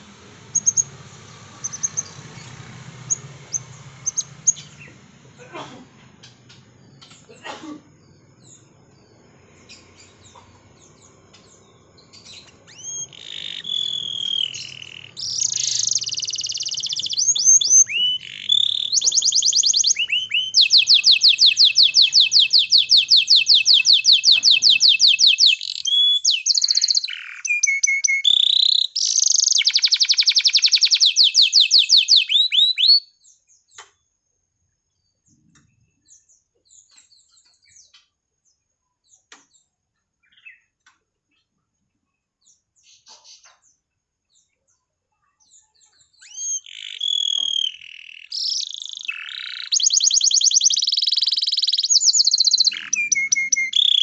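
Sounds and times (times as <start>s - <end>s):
canary chirping: 0.0s - 5.3s, 6.2s - 33.9s, 39.0s - 41.5s, 42.4s - 54.0s
canary song with rapid trills: 0.0s - 54.0s.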